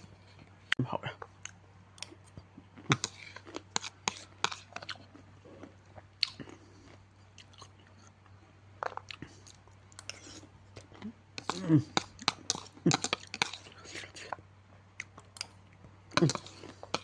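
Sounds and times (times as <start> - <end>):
faint low hum: 0.0 - 17.0
person chewing crunchy food: 1.3 - 14.4, 15.0 - 17.0.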